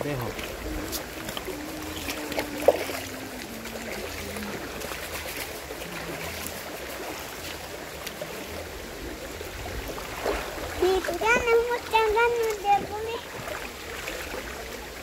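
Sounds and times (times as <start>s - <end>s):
river running over rocks: 0.0s - 15.0s.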